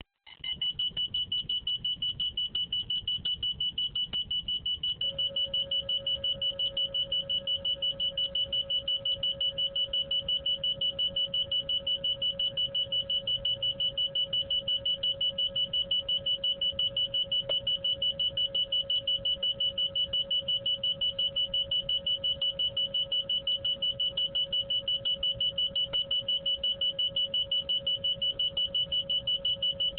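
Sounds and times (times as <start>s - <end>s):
high-pitched alarm beeps: 0.4s - 29.9s
lower alarm tone: 0.5s - 29.9s.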